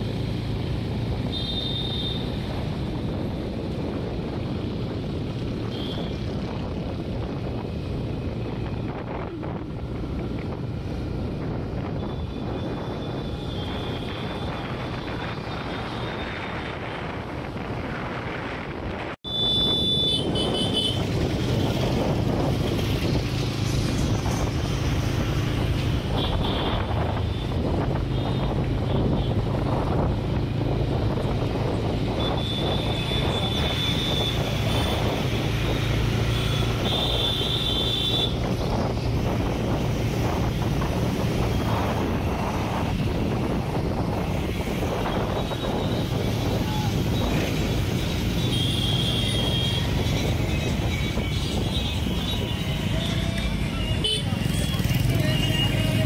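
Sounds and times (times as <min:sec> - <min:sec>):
vehicle engine and tyre noise: 0:00.0 - 0:56.0
wind on microphone: 0:02.4 - 0:54.7.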